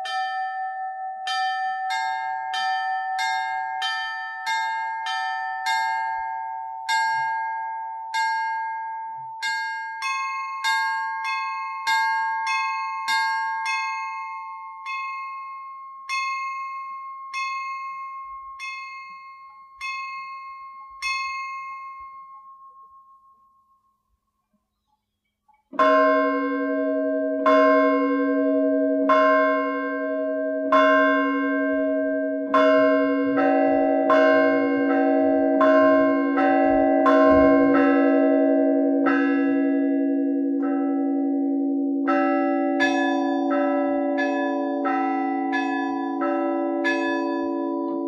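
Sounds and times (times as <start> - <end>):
large low bells ringing: 0.0 - 23.4, 25.7 - 48.0.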